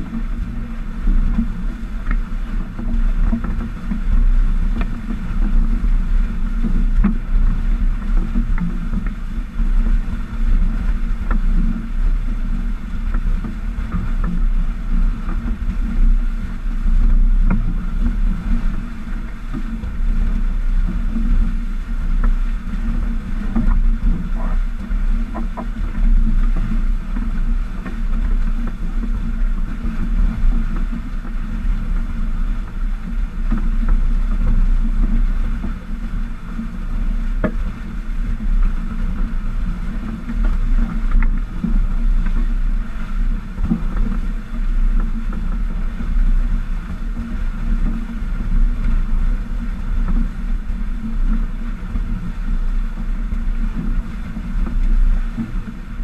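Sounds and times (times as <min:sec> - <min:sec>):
low rumble: 0:00.0 - 0:56.0
water rushing along hulls: 0:00.0 - 0:56.0.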